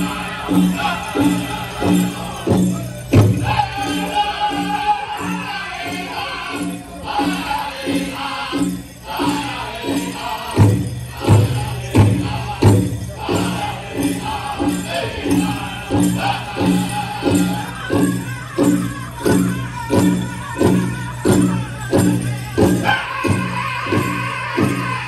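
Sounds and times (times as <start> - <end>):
bells jingling: 0.0 - 25.0
group singing: 0.0 - 25.0
large drum beat: 0.0 - 25.0.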